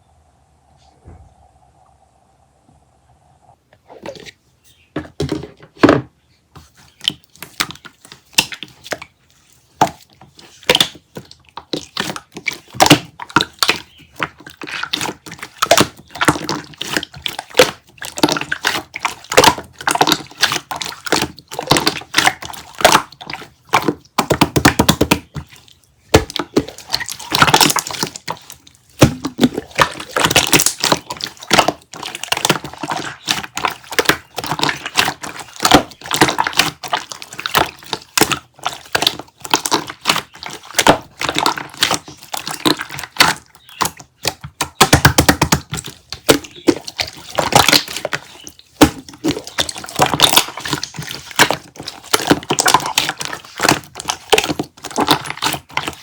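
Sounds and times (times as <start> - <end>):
close taps and crunches: 6.6 - 56.0.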